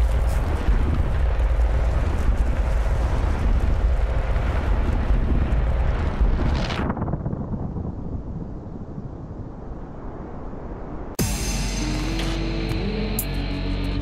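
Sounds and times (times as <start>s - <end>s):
deep rumble with rushing noise: 0.0s - 14.0s.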